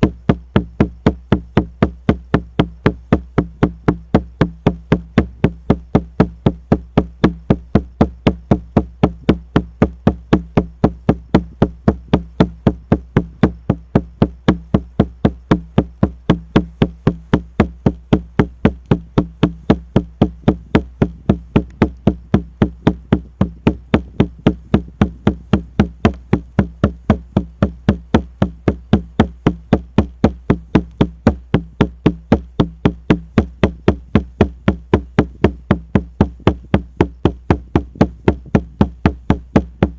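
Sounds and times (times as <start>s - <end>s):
frame drum beaten fast: 0.0s - 39.9s.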